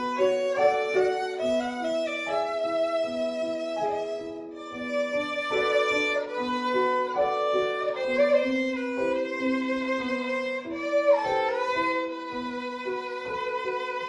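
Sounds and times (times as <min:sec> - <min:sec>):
violin slow melody: 0:00.0 - 0:14.0.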